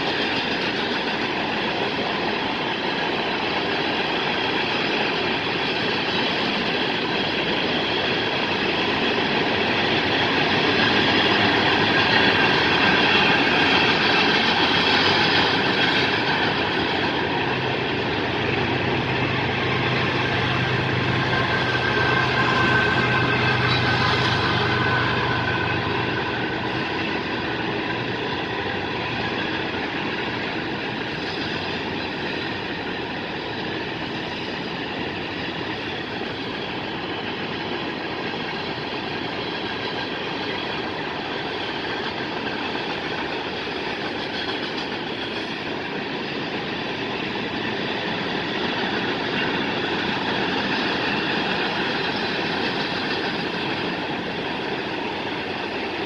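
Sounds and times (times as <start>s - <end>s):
steel wheels on rail: 0.0s - 56.0s.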